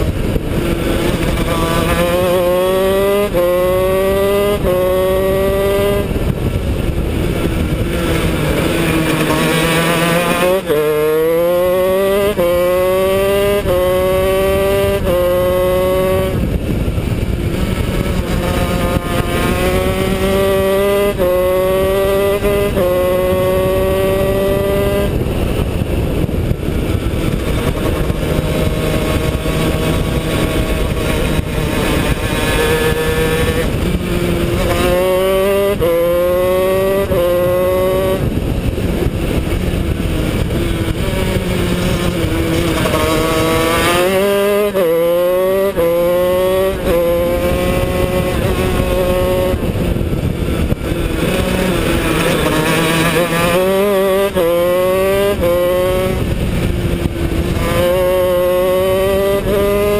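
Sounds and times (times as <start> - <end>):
kart engine revving through gears: 0.0 - 59.9
wind rush: 0.0 - 59.9.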